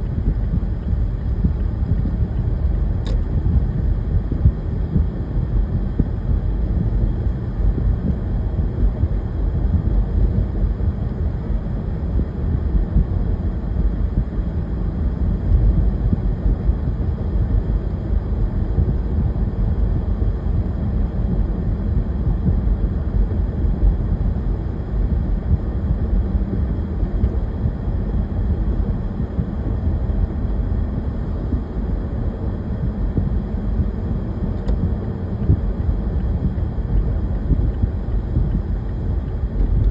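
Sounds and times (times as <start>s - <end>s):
low vehicle rumble: 0.0s - 39.9s.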